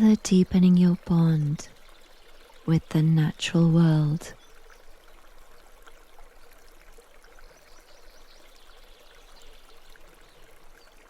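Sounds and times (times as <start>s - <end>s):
stream water babbling: 0.0s - 11.0s.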